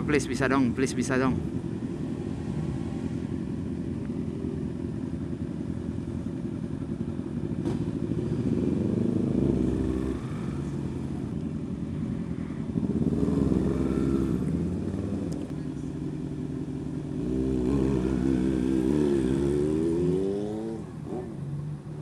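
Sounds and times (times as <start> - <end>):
motorcycle engine revving: 0.0 - 22.0
motorcycle engine running: 0.0 - 22.0.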